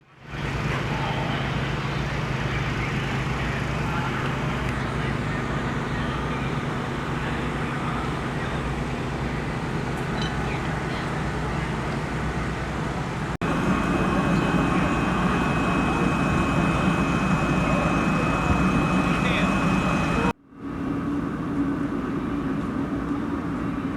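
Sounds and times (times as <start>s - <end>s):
race car engines running: 0.3s - 20.4s.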